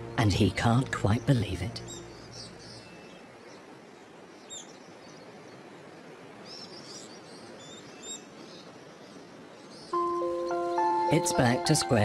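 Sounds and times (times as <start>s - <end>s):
soft steady hiss: 0.0s - 12.0s.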